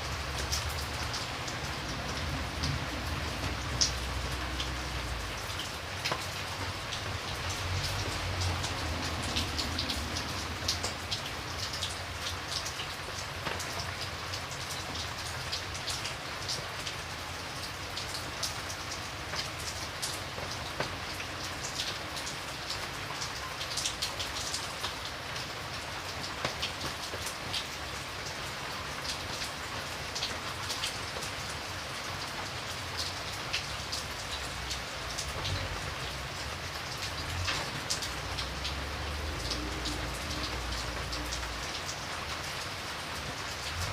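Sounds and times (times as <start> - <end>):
rain falling on a surface: 0.0 - 43.9
raindrops ticking: 0.0 - 43.9.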